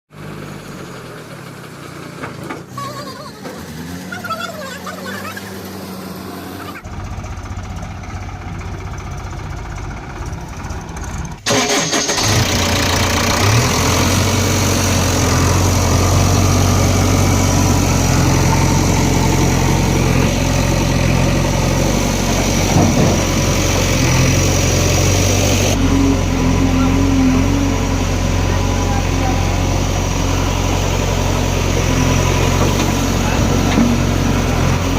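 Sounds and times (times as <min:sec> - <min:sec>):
heavy diesel engine running: 0:00.1 - 0:34.9.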